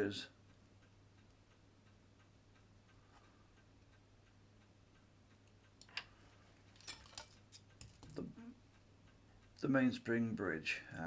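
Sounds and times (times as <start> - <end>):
faint light ticks: 0.2 - 8.0, 8.6 - 10.8.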